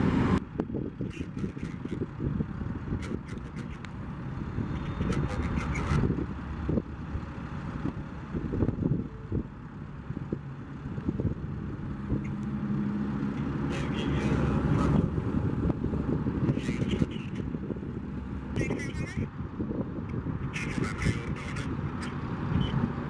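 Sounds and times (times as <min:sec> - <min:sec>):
engine drone: 0:00.0 - 0:23.0
road traffic rumble: 0:00.0 - 0:23.0.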